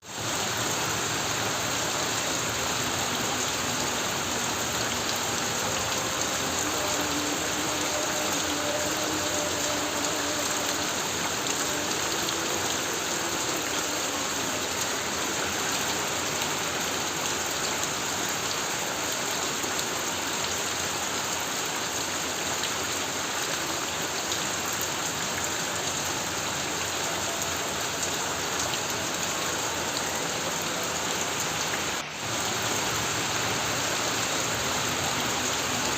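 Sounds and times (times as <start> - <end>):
heavy rain on a metal roof: 0.0 - 35.9.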